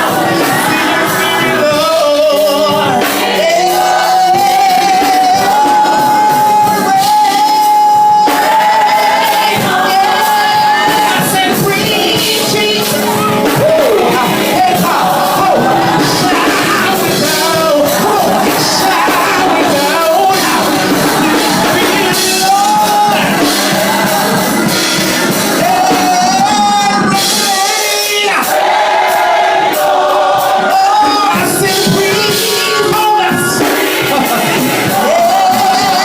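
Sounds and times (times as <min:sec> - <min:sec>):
band accompaniment: 0:00.0 - 0:36.0
gospel choir singing: 0:00.0 - 0:36.0.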